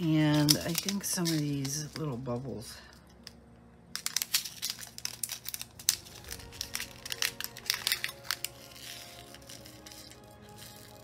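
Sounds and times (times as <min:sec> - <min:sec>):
faint background music: 0:00.0 - 0:11.0
plastic bag crinkling: 0:00.0 - 0:11.0.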